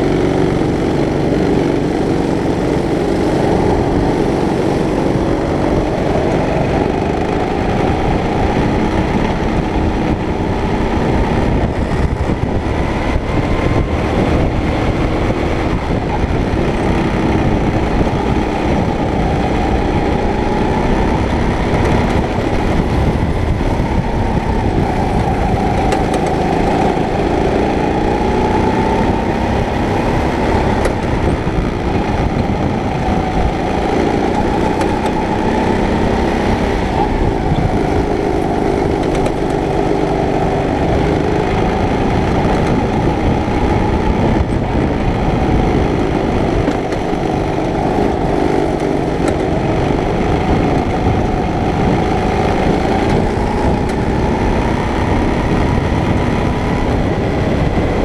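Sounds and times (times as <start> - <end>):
kart engine running hard: 0.0 - 58.0
low rumble: 0.0 - 58.0
wind noise: 0.0 - 58.0.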